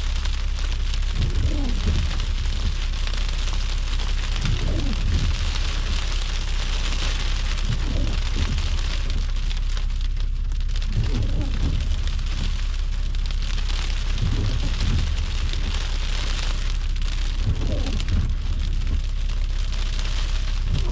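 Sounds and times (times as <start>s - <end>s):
low rumble: 0.0s - 20.9s
tyres hissing on slushy road: 0.0s - 20.9s.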